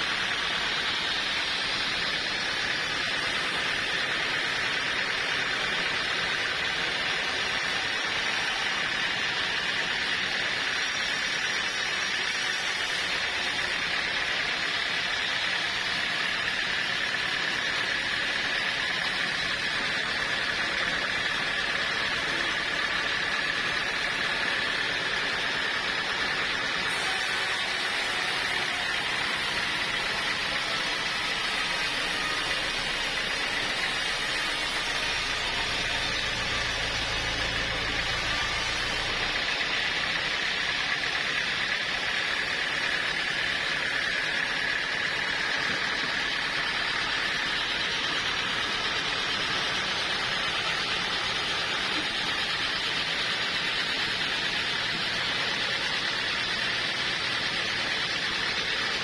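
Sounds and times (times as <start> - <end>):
sawmill saw whining: 0.0 - 59.0.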